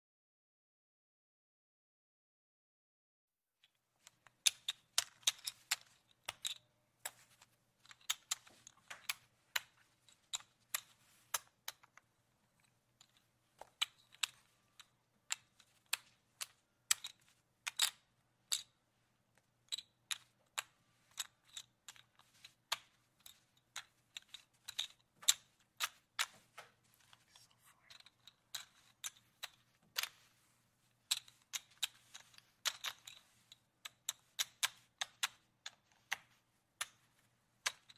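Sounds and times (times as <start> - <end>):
casino chips clacking: 4.0 - 18.8, 19.6 - 37.9.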